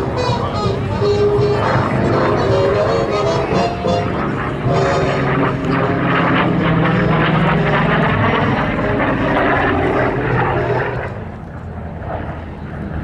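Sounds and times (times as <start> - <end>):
propeller plane engine: 0.0 - 13.0.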